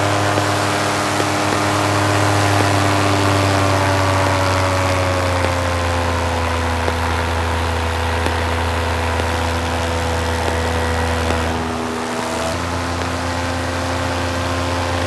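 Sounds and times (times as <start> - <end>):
paramotor engine and propeller droning: 0.0 - 15.0.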